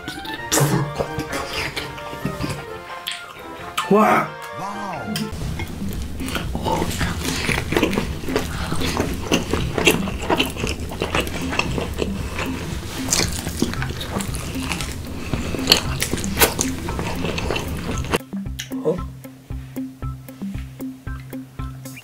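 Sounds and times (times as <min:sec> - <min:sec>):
biting and chewing food: 0:00.0 - 0:04.6, 0:05.2 - 0:18.7.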